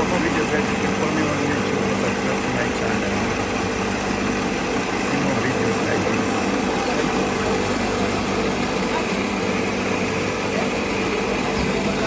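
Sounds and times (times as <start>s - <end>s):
electric grinding mill humming: 0.0s - 12.0s.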